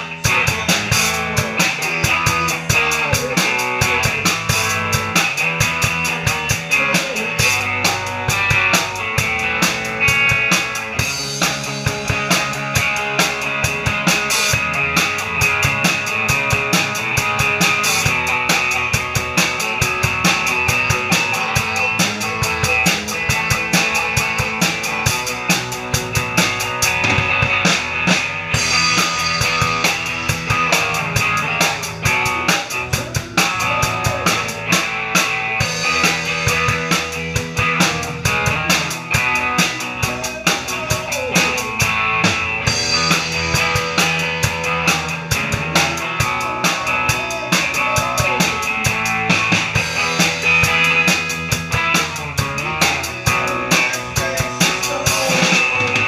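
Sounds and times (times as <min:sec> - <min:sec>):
drum kit beat: 0:00.0 - 0:56.0
rock band playing live: 0:00.0 - 0:56.0.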